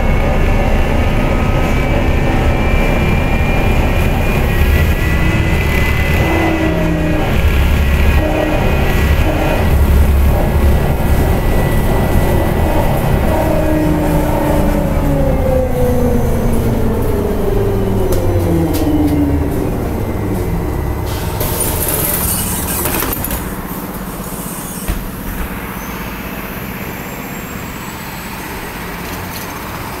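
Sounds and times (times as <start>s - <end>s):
street noise: 0.0s - 30.0s
trolleybus motor whine: 0.0s - 30.0s.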